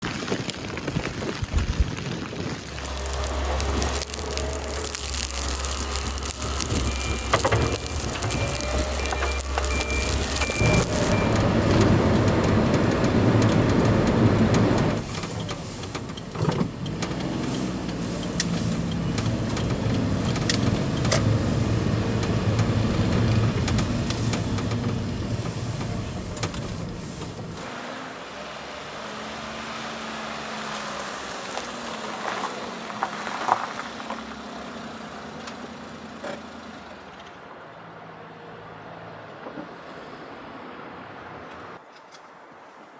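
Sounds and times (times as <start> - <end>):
vehicle engine and road noise: 2.6 - 41.9.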